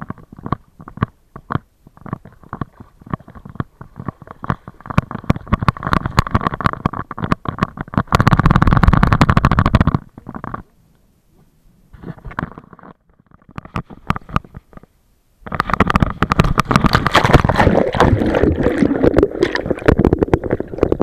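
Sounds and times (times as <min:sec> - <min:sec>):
camera rubbing and knocking: 0:00.0 - 0:10.6, 0:11.9 - 0:21.0.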